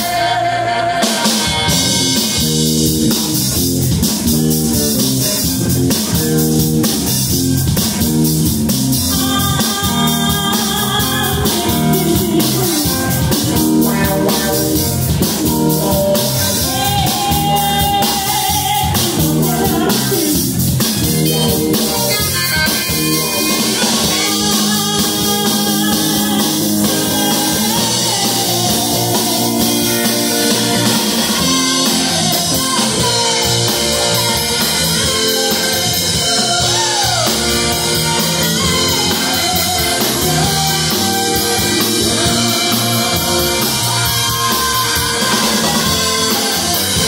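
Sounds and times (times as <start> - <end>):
woman singing lead: 0.0 - 2.3, 9.1 - 47.0
bass guitar: 0.0 - 47.0
drum kit: 0.0 - 47.0
electric guitars: 0.0 - 47.0.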